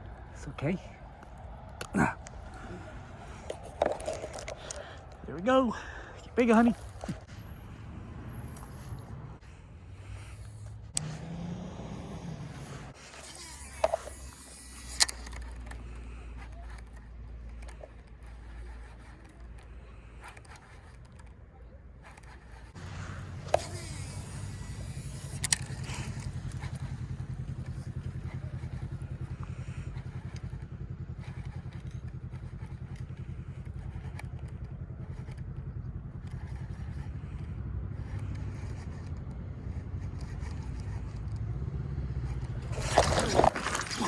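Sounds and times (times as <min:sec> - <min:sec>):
motor humming: 0:00.0 - 0:44.0.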